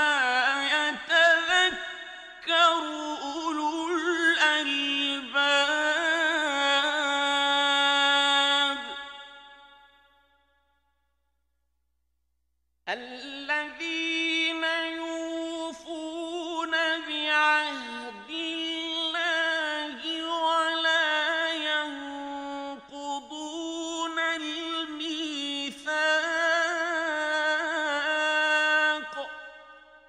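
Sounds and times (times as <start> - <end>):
man chanting: 0.0 - 9.8, 12.9 - 30.0.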